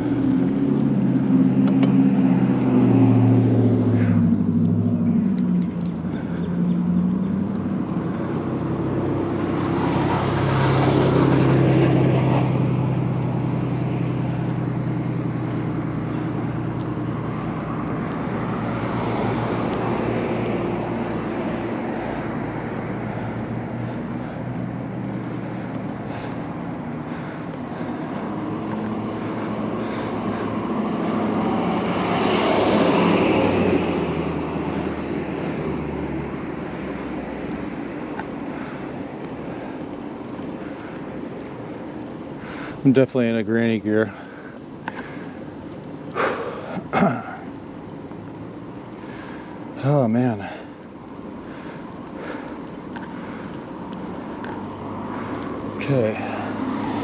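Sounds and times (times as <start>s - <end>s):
low engine hum: 0.0s - 57.0s
vehicles passing close by: 0.0s - 57.0s.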